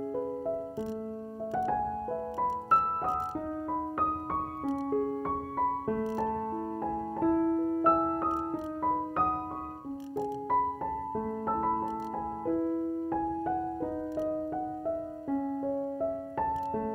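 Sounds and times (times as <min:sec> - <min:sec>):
gentle piano music: 0:00.0 - 0:16.9.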